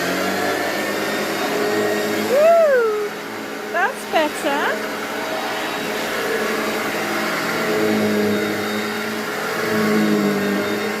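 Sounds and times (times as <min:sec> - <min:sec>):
vacuum cleaner motor hum: 0:00.0 - 0:11.0.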